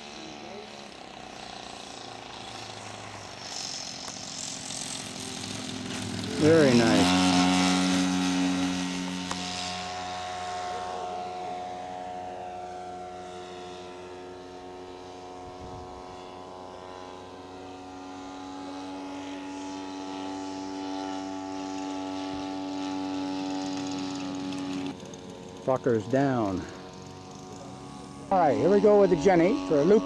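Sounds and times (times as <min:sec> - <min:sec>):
model airplane engine flying past: 0:00.0 - 0:30.0.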